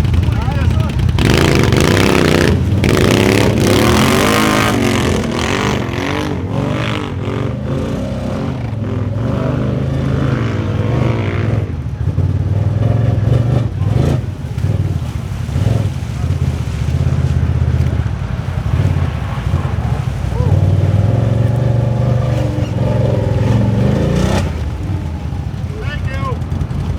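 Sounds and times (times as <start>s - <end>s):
atv engines revving: 0.0s - 26.9s.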